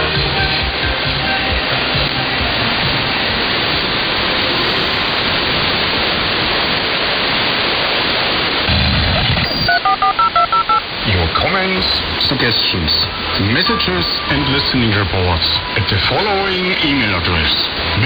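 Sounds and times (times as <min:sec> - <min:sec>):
low rumble: 0:00.0 - 0:09.7, 0:10.8 - 0:16.5
radio static hiss: 0:00.0 - 0:18.0.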